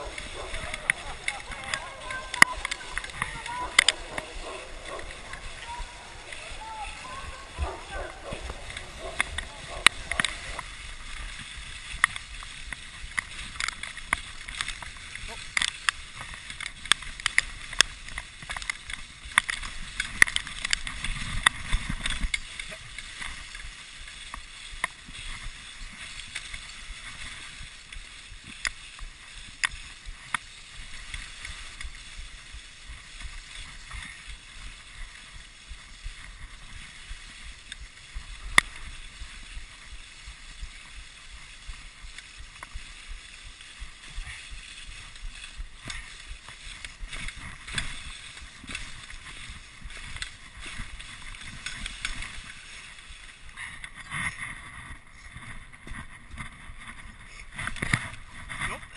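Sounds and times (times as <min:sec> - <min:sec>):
sled rattling clicks and knocks: 0:00.0 - 0:58.9
sled runners hissing on snow: 0:00.0 - 0:58.9.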